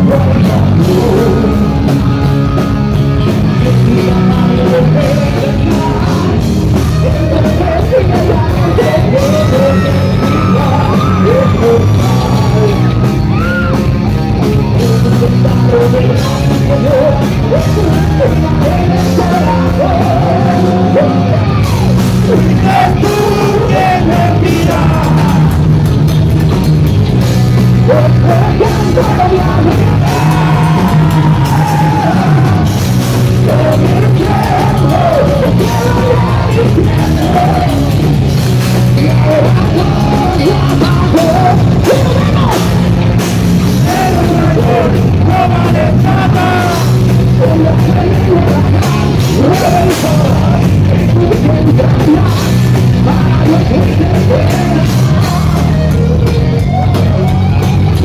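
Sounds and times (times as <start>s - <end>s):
person singing: 0.0s - 25.7s, 27.7s - 43.0s, 43.7s - 57.6s
heavy metal band playing: 0.0s - 58.0s.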